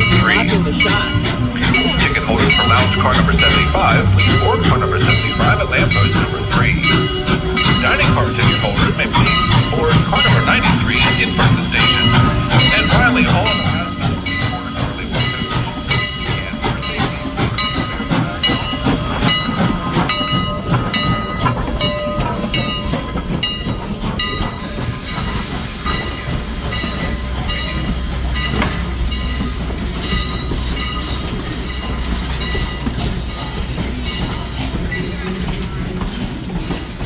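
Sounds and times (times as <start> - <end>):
locomotive bell ringing: 0.0 - 37.0
steam hissing: 0.0 - 37.0.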